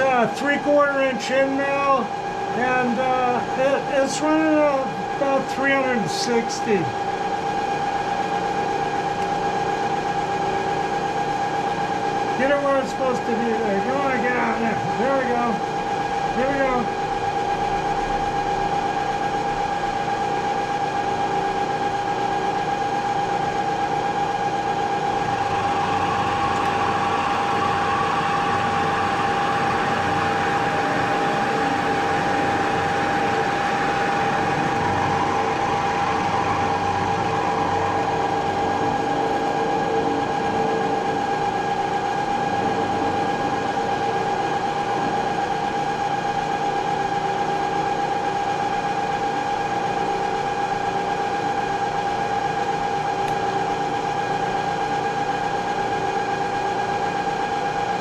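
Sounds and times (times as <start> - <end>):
spindle whine: 0.0 - 57.9.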